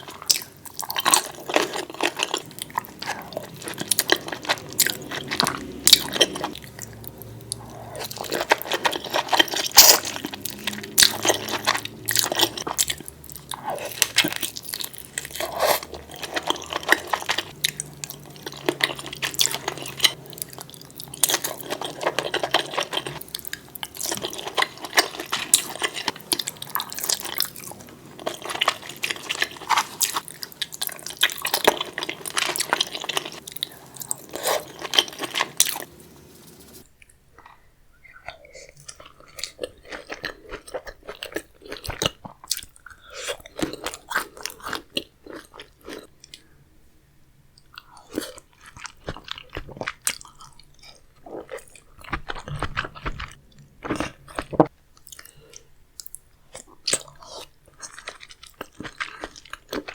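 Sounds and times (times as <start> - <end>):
person chewing and crunching: 0.0 - 36.0, 36.6 - 46.5, 47.6 - 59.9.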